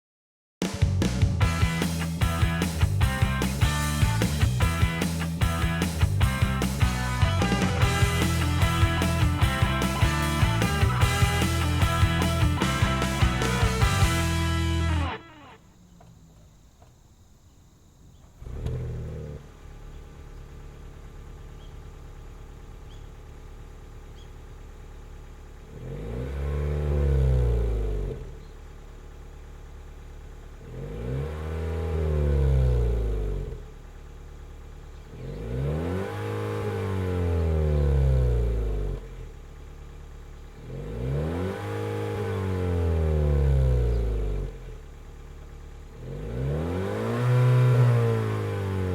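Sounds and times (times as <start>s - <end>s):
car engine starting: 0.9s - 48.9s
car exhaust idling and revving: 1.0s - 48.9s.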